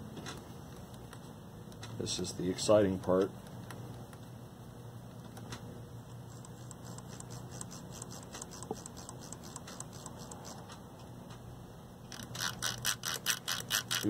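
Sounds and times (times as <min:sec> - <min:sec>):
rotary controls clicking: 0:00.2 - 0:04.4, 0:05.1 - 0:11.5, 0:12.1 - 0:14.0.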